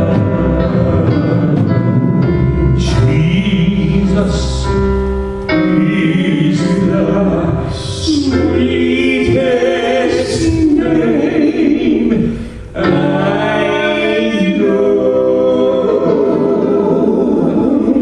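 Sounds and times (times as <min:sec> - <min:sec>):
gospel singers: 0:00.0 - 0:18.0
keyboard chords: 0:00.0 - 0:18.0.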